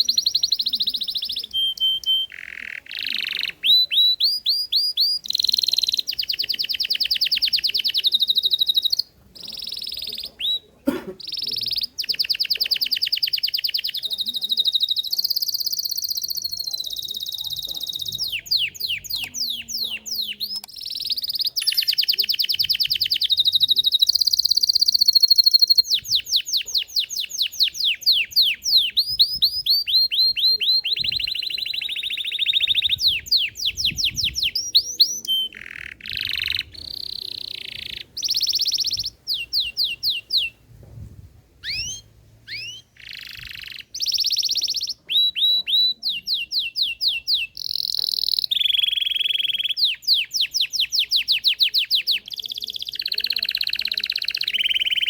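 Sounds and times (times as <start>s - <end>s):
canary singing trills: 0.0s - 40.7s, 41.6s - 55.0s.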